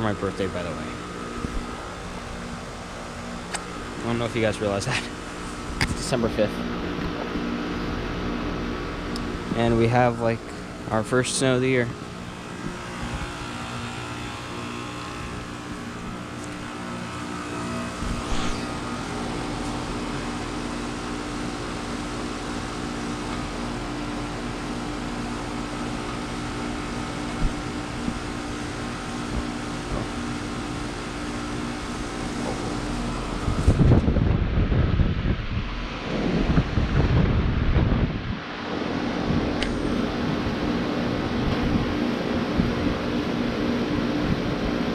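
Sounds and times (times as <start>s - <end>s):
heat pump humming: 0.0s - 44.9s.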